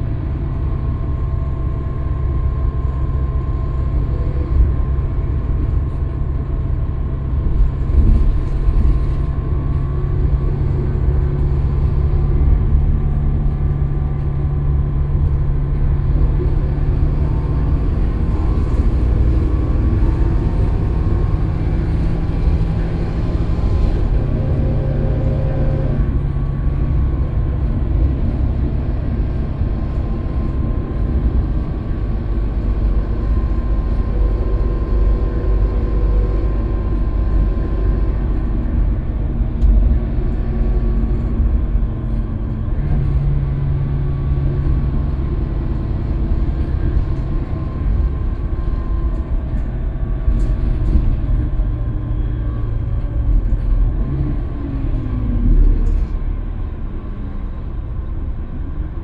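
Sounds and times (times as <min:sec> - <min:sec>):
bus engine droning: 0:00.0 - 0:59.0
road noise: 0:00.0 - 0:59.0.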